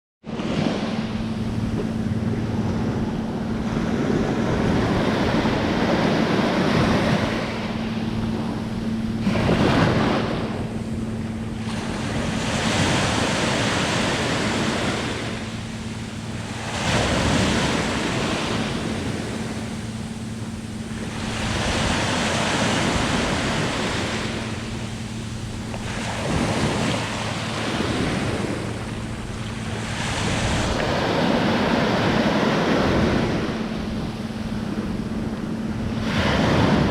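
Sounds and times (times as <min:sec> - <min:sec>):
sea waves breaking on beach: 0:00.3 - 0:36.9.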